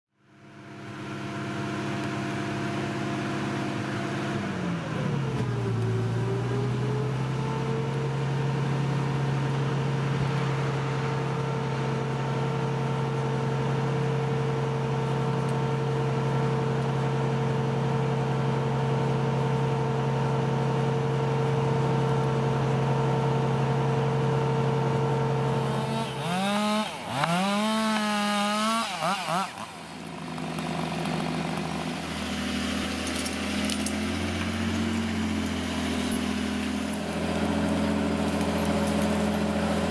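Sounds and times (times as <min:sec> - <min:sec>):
engine running and revving: 0:00.3 - 0:39.9.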